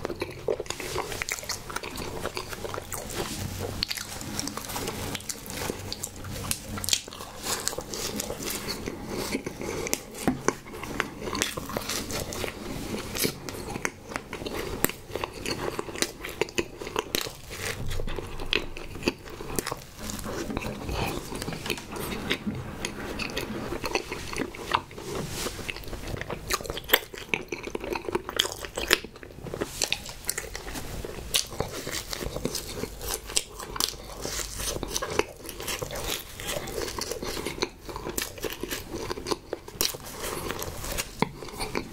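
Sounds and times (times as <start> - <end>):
person biting and chewing cake: 0.0 - 41.9.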